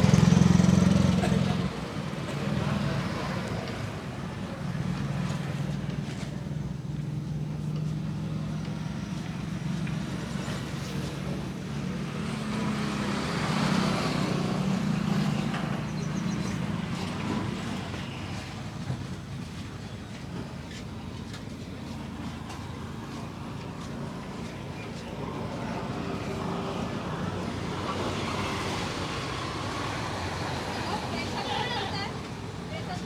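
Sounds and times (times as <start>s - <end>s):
traffic engine hum: 0.0s - 33.0s.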